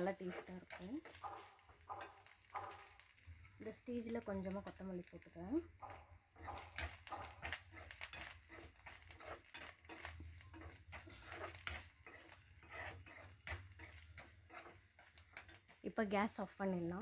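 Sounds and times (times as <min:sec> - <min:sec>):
faint oil sizzling: 0:00.0 - 0:17.0
spatula scraping and tapping pan: 0:00.0 - 0:17.0.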